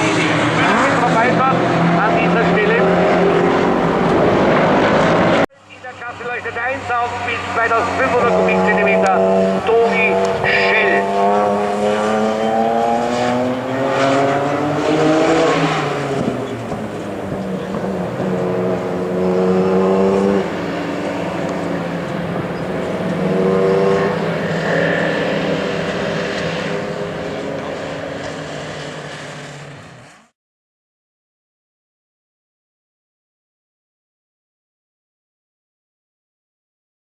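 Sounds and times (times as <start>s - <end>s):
race car engines revving: 0.0s - 30.3s.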